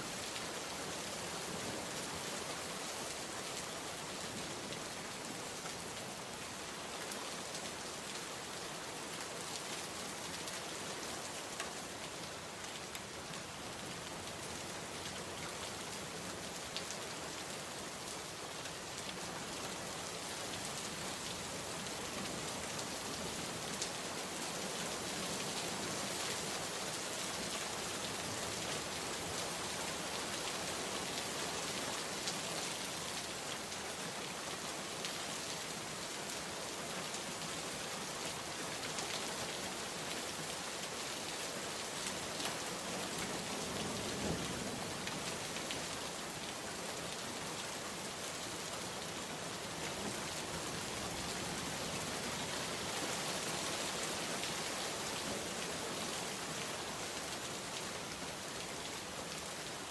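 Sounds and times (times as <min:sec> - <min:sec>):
heavy rain on water and pavement: 0:00.0 - 0:59.9.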